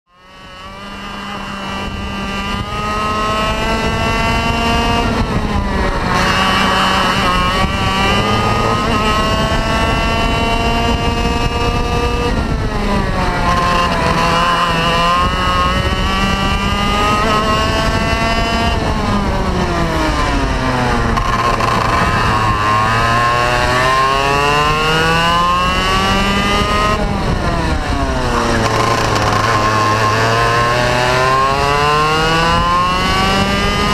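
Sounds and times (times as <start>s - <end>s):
kart engine revving: 0.3s - 33.9s.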